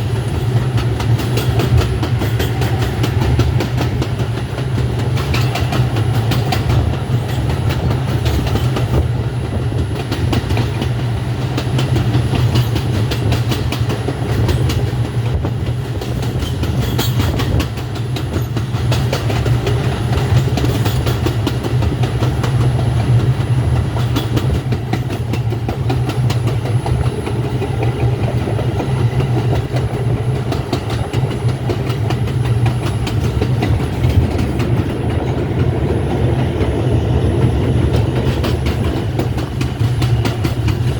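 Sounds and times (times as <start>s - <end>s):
subway train rumbling: 0.0s - 40.9s
wheels clacking over rail joints: 0.0s - 40.9s.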